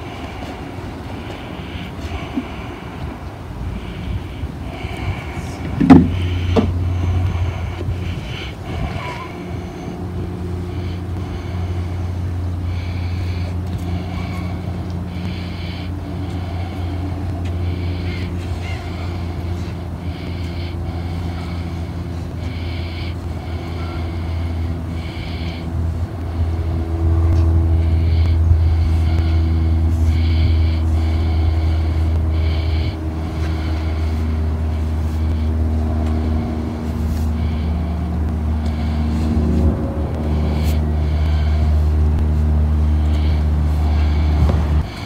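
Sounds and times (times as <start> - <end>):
push broom scraping asphalt: 0.0 - 25.6, 26.6 - 45.0
vehicle engine rumble: 0.0 - 45.0.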